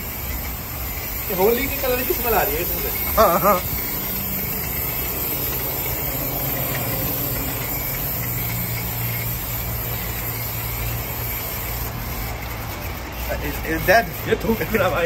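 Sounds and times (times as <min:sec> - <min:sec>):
spray wand hissing: 0:00.0 - 0:15.0.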